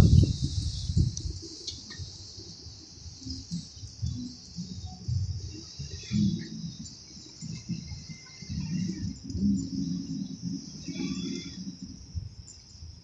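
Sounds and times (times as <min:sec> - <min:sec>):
low rumbling near microphone: 0:00.0 - 0:01.5, 0:03.3 - 0:13.0
high insect drone: 0:00.0 - 0:13.0
faint bird chirps: 0:00.1 - 0:13.0.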